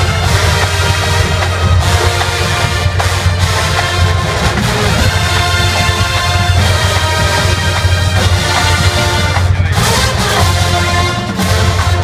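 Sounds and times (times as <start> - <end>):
marching band playing: 0.0 - 12.0.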